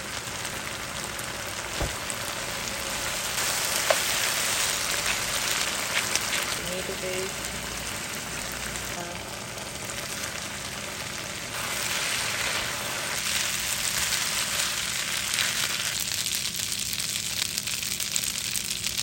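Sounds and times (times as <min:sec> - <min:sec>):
food sizzling in a hot pan: 0:00.0 - 0:19.0.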